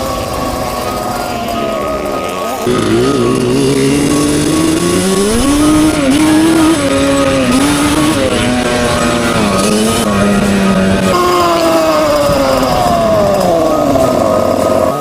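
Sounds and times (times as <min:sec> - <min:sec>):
atv engine running hard: 0:00.0 - 0:15.0.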